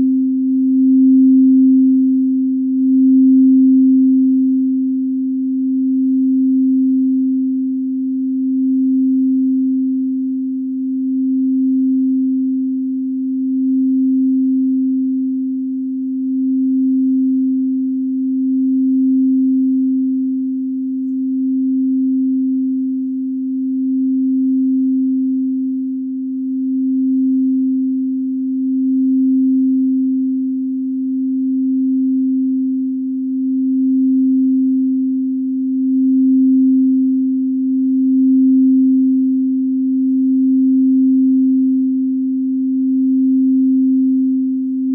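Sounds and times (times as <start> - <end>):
singing bowl humming: 0.0 - 44.9.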